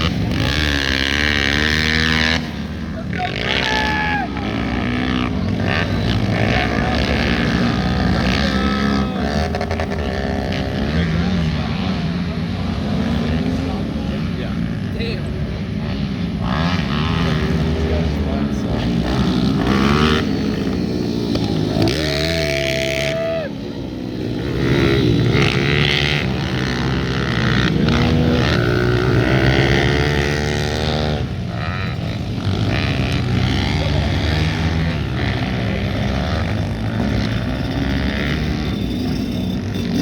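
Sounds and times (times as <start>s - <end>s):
pit bike engines revving: 0.0s - 40.0s.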